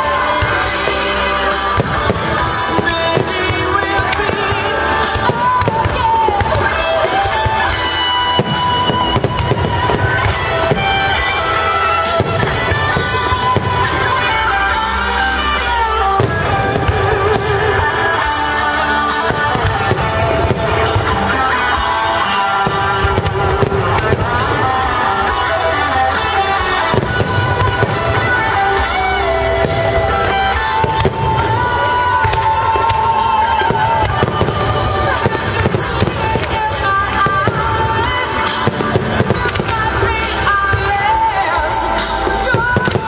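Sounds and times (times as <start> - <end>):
fireworks bangs and crackles: 0.0 - 43.0
music with steady pitched line: 0.0 - 43.0.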